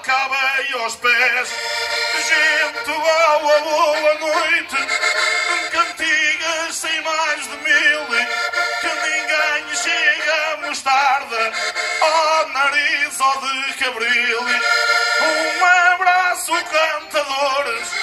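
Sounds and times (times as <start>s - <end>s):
accordions holding chords: 0.0s - 18.0s
man singing into microphone: 0.0s - 18.0s.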